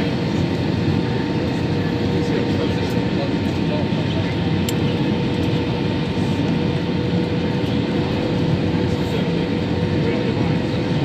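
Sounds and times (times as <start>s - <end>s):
jet engines and airflow roar: 0.0s - 11.0s.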